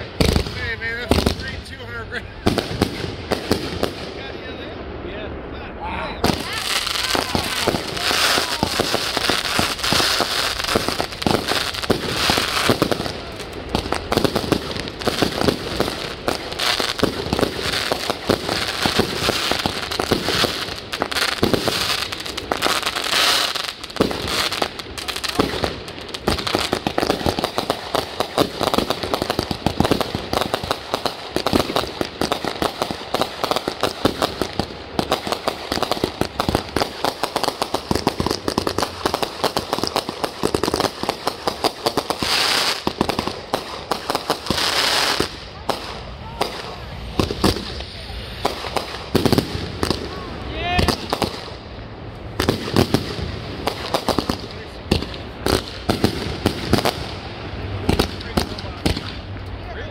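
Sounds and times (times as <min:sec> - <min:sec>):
fireworks popping and crackling: 0:00.0 - 0:59.9.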